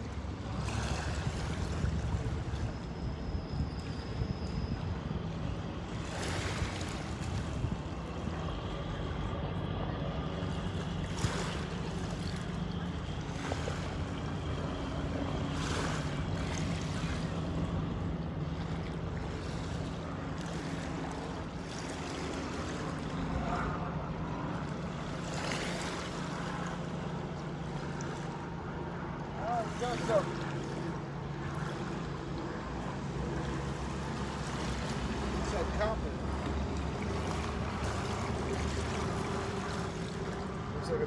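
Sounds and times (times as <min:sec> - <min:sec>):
low motor drone: 0:00.0 - 0:41.0
water noise: 0:00.0 - 0:41.0.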